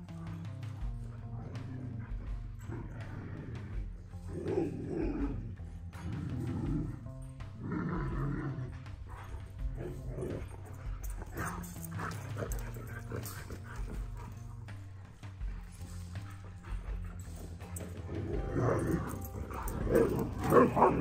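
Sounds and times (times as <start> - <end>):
dogs yipping and barking: 0.0 - 21.0
music playing: 0.0 - 21.0.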